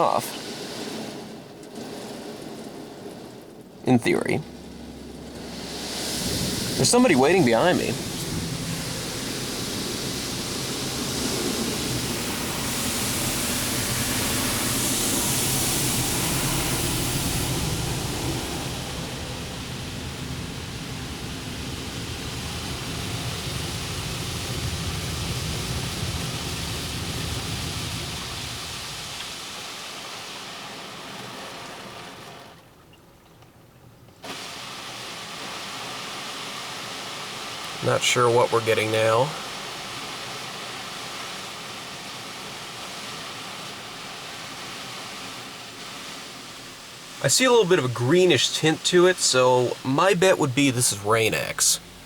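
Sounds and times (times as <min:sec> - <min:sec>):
low rumble of wash equipment: 0:00.0 - 0:52.0
water spraying onto car: 0:00.0 - 0:52.0.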